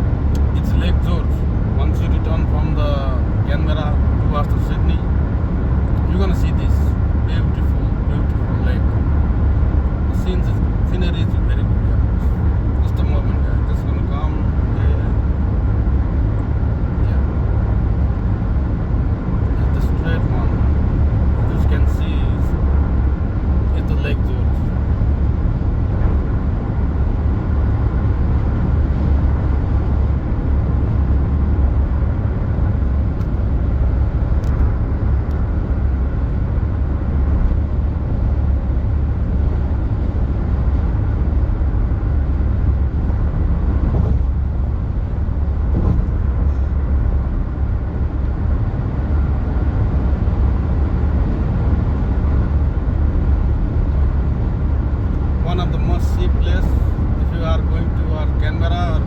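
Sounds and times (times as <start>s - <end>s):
car driving on road: 0.0s - 59.0s.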